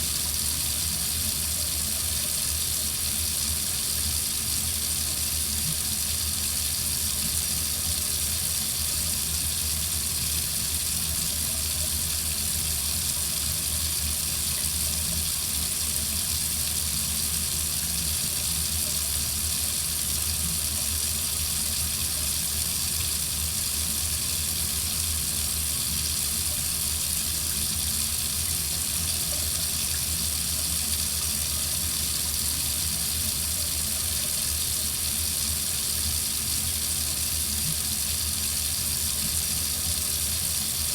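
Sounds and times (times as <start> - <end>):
faucet running into sink: 0.0 - 40.9.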